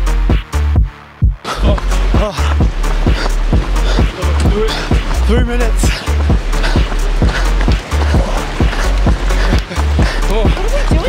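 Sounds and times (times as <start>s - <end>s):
beat with heavy bass: 0.0s - 11.0s.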